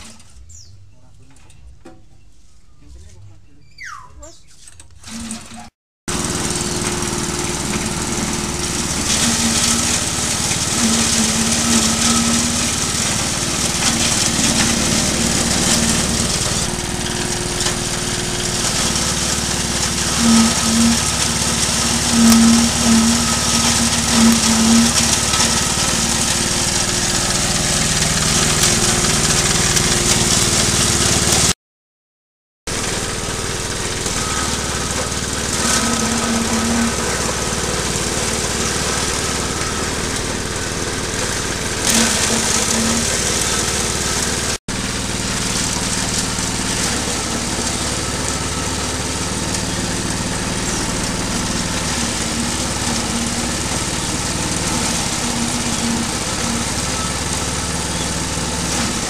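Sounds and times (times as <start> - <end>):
small engine running: 4.2 - 31.6, 32.7 - 59.0
cutter shredding grass: 5.0 - 31.6, 32.7 - 59.0.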